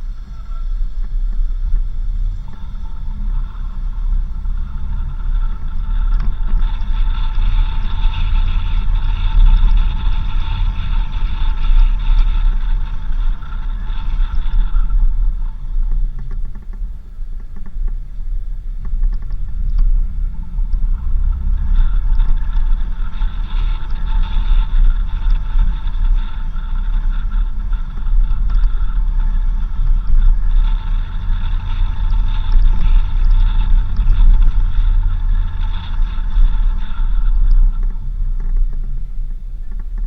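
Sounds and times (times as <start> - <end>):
engine and tyres rumbling: 0.0 - 40.0
rattling noise: 0.0 - 40.0.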